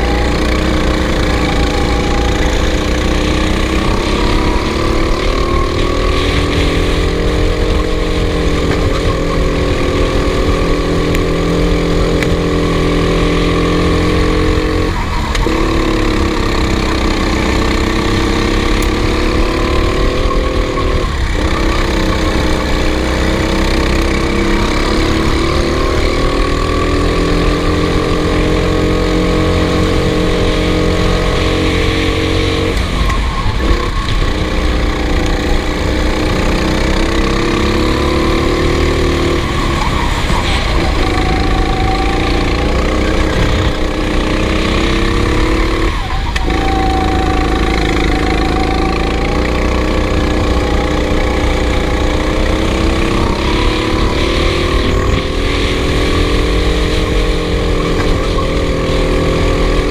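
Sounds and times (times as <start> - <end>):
racing engine at high revs: 0.0 - 59.9.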